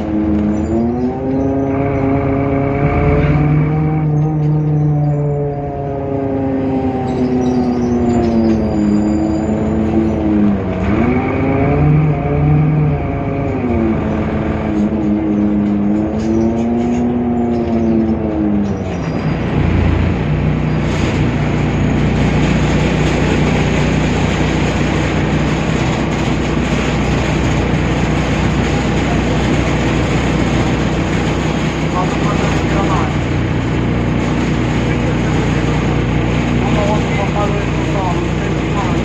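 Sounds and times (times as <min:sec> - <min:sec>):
diesel bus engine running: 0:00.0 - 0:39.0.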